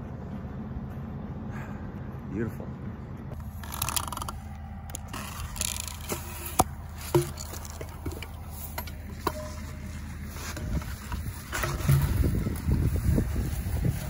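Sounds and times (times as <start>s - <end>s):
tractor engine humming: 0.0s - 14.0s.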